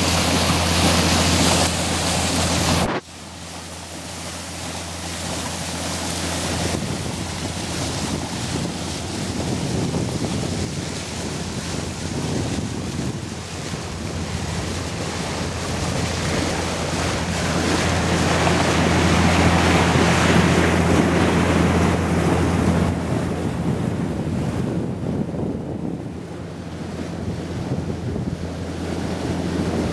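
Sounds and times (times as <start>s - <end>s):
water rushing past boat: 0.0s - 29.9s
wind buffeting microphone: 3.9s - 29.9s.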